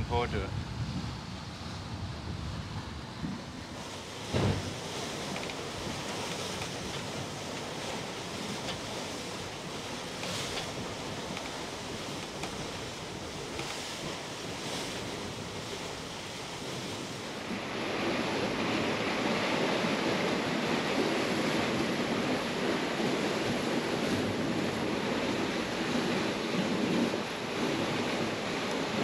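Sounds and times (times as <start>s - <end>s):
sea waves: 0.0s - 29.0s
water rushing past hulls: 0.0s - 29.0s
wind on microphone: 0.0s - 29.0s.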